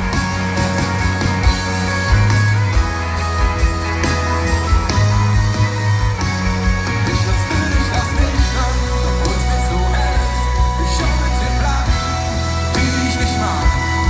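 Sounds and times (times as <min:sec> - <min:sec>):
pop-rock band playing live: 0:00.0 - 0:14.0.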